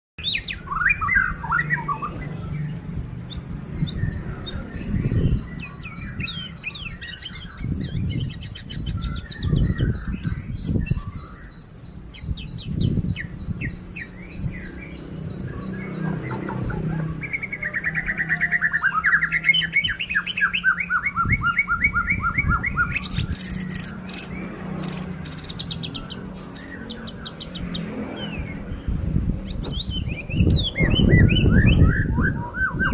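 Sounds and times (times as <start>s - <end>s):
songbird singing whistles and trills: 0.2s - 2.7s, 3.3s - 28.6s, 29.5s - 32.9s.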